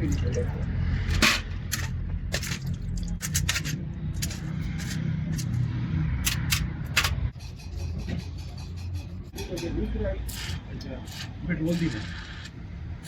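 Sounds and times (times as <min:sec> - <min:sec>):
metal tools clicking and scraping: 0:01.1 - 0:12.6.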